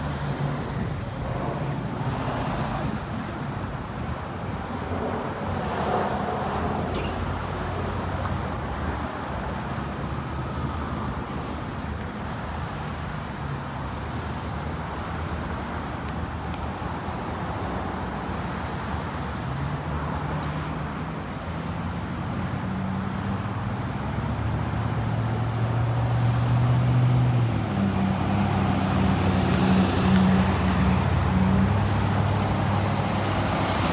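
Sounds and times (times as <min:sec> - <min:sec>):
bus engines droning: 0:00.0 - 0:33.9.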